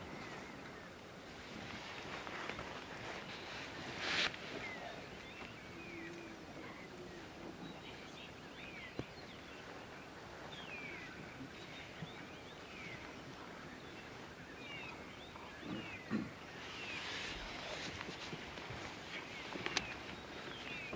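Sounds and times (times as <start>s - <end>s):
bird chirping: 1.7s - 20.9s.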